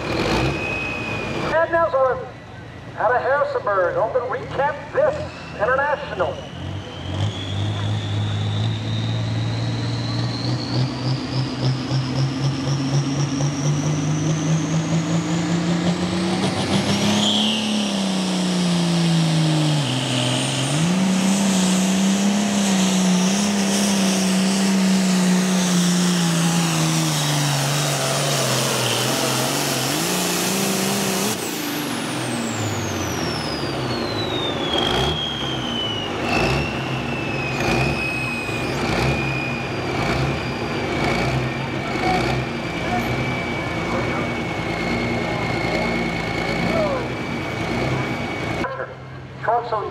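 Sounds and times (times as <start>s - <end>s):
high whine: 0.0s - 49.6s
tractor diesel engine under load: 0.0s - 49.9s.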